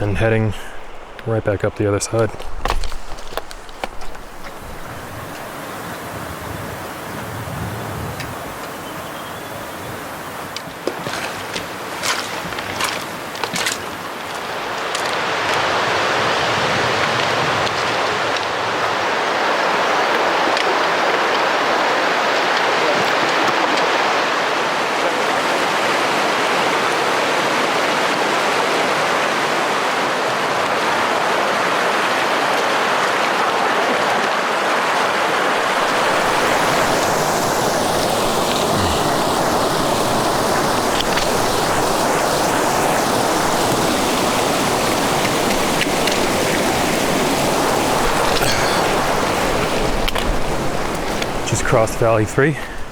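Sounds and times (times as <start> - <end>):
stream rushing over rocks: 0.0 - 7.3, 8.4 - 52.9.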